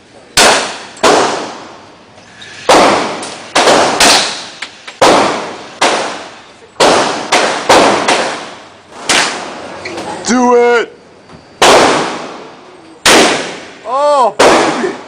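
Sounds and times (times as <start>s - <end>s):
gunshots with echoing decay: 0.4s - 1.8s, 2.7s - 10.5s, 11.6s - 13.8s, 14.4s - 15.0s.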